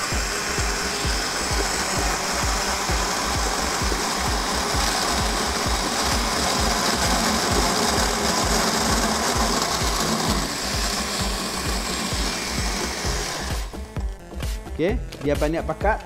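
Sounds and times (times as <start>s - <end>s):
blender running: 0.0s - 14.2s.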